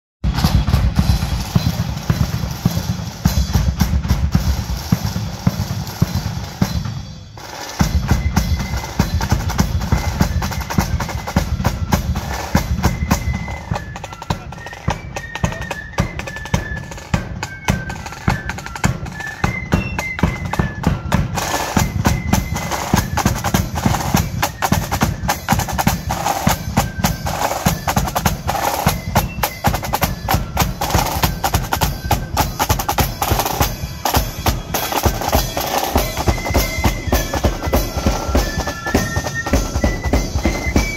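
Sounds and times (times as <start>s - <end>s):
snare and bass drums march: 0.2s - 40.9s
flutes playing melody: 0.3s - 40.9s.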